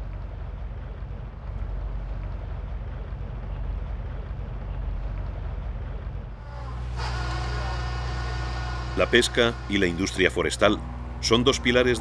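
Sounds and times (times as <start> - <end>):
boat engine and machinery humming: 0.0 - 12.0
low rumbling outdoor noise: 0.0 - 12.0.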